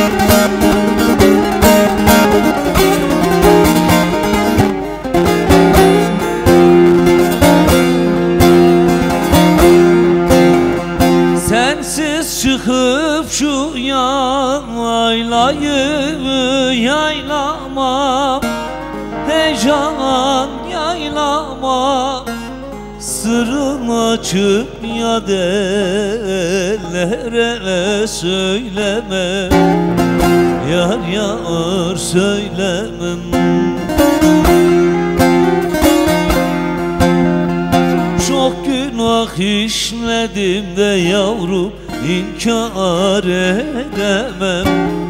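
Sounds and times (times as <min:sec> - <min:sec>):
man singing folk song: 0:00.0 - 0:45.0
plucked lute with drone: 0:00.0 - 0:45.0.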